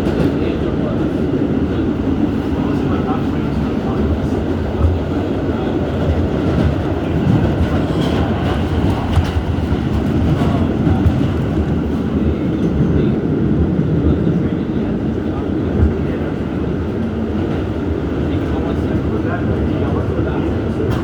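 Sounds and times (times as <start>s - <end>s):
wheels rumbling on rails: 0.0s - 21.0s.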